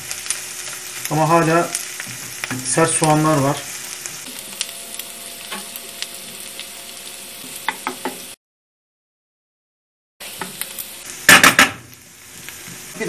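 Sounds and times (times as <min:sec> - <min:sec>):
onions sizzling in a frying pan: 0:00.0 - 0:08.4, 0:10.2 - 0:13.0.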